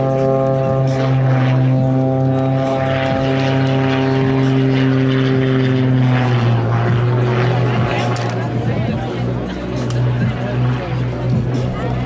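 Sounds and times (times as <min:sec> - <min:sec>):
propeller plane flying overhead: 0:00.0 - 0:12.0.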